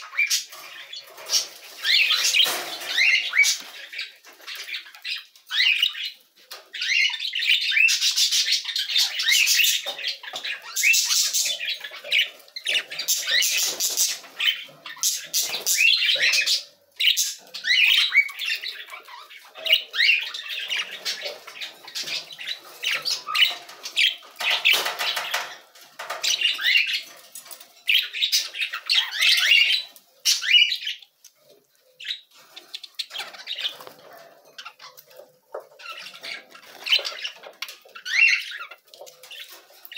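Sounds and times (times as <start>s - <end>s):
budgerigars chattering and warbling: 0.0s - 31.2s, 32.0s - 39.9s.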